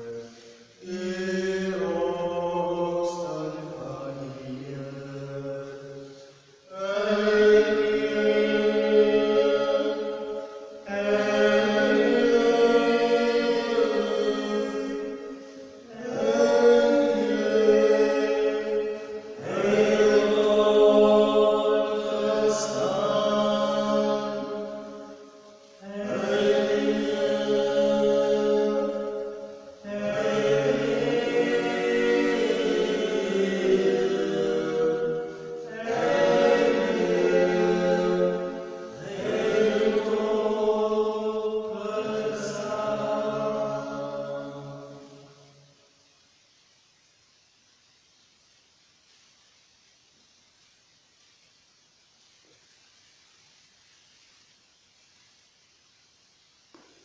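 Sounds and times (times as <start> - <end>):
voices singing a hymn: 0.0 - 45.8.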